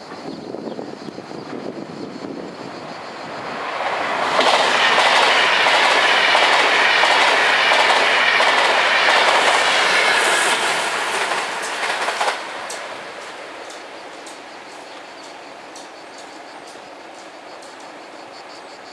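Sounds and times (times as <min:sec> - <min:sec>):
train wheels rushing on rails: 0:00.0 - 0:18.9.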